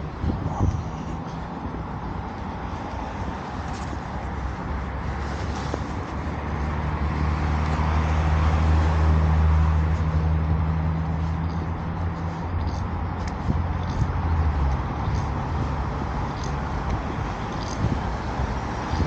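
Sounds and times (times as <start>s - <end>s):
road traffic: 0.0s - 19.0s
vehicle engine hum passing: 0.0s - 19.0s.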